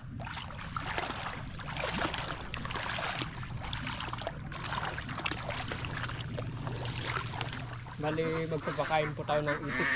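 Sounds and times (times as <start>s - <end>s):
pond water sloshing and trickling: 0.0s - 9.9s
small water splashes: 0.0s - 9.9s
steady low rumble: 0.0s - 9.9s.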